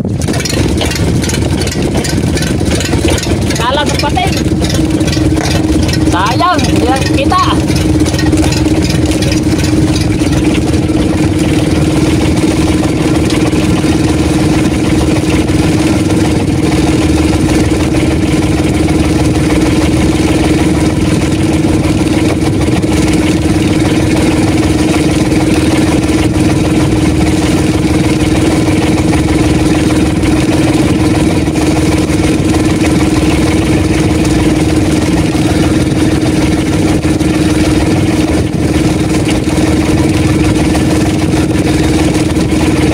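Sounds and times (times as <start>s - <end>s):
boat engine humming: 0.0s - 42.9s.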